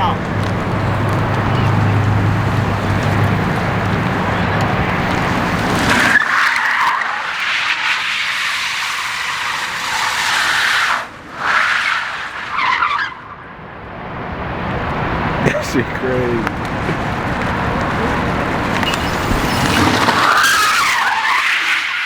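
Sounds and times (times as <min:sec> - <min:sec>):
car tires skidding and squealing: 0:00.0 - 0:13.5, 0:14.2 - 0:22.0.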